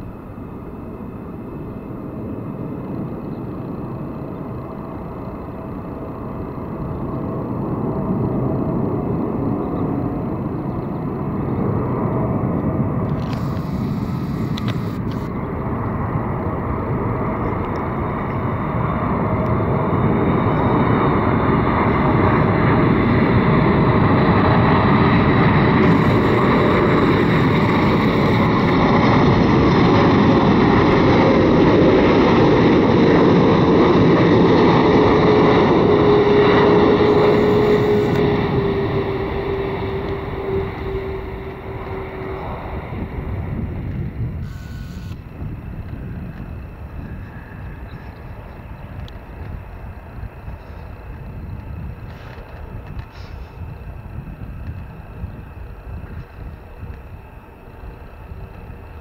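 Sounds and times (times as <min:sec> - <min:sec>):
jet engine whine: 0:00.0 - 0:59.0
jet engines roaring: 0:00.0 - 0:59.0.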